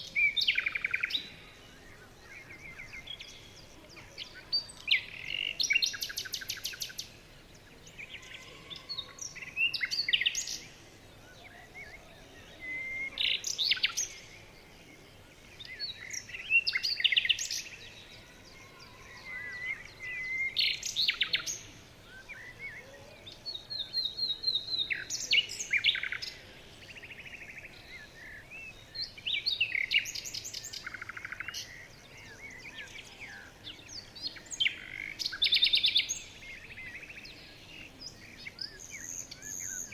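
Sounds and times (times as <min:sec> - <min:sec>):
songbirds singing trills: 0:00.0 - 0:39.9.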